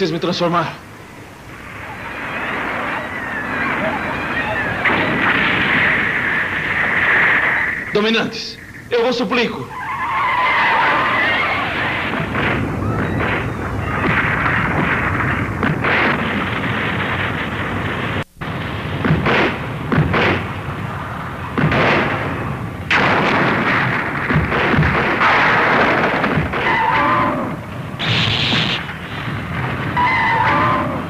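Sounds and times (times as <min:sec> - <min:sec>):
explosions: 0:01.2 - 0:09.4, 0:10.1 - 0:31.0.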